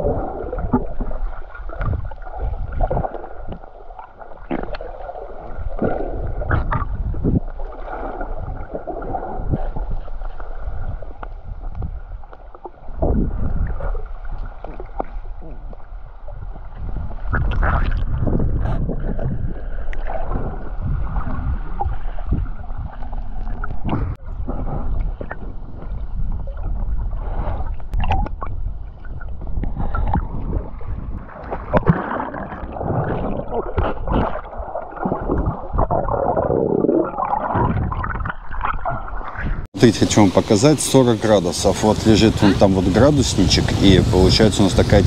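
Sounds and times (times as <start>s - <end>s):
bubbling: 0.0s - 15.9s, 16.7s - 39.9s
underwater rushing: 0.0s - 45.0s.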